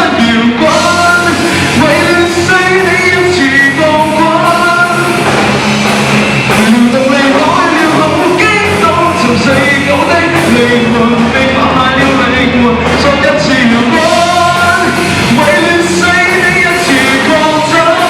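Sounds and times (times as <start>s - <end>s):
person singing: 0.0s - 5.6s, 6.5s - 18.0s
rock band playing: 0.0s - 18.0s.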